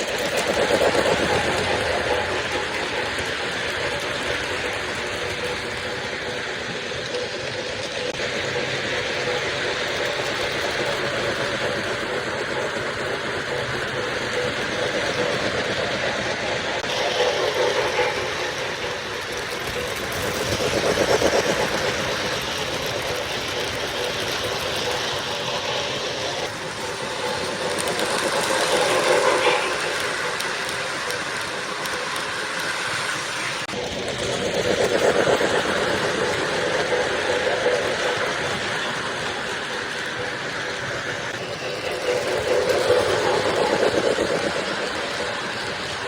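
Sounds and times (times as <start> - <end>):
model trains rattling on track: 0.0 - 46.0.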